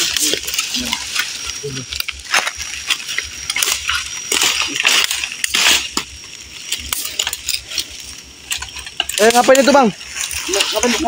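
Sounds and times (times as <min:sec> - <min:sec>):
dry fronds and sticks crunching: 0:00.0 - 0:11.0.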